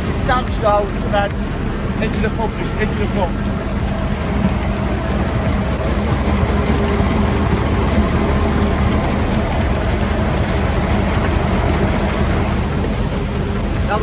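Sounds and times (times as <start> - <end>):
concrete pump engine drone: 0.0 - 14.0.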